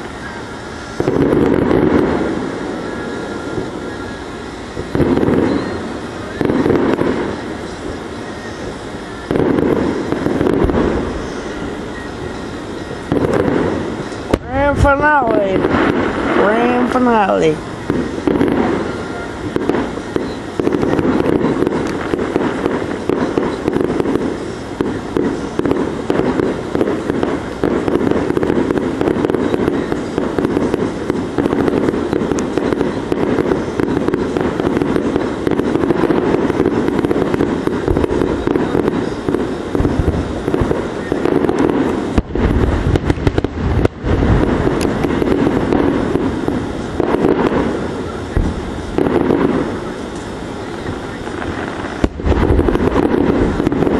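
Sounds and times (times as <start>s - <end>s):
fireworks bursting and crackling: 0.0s - 53.9s
heavy firework booms: 0.0s - 53.9s.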